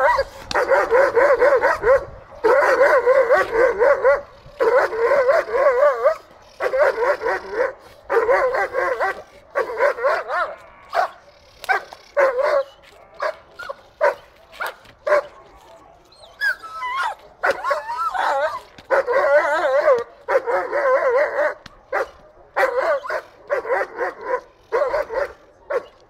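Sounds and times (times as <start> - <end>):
dog barking: 0.0 - 15.4, 17.4 - 26.0.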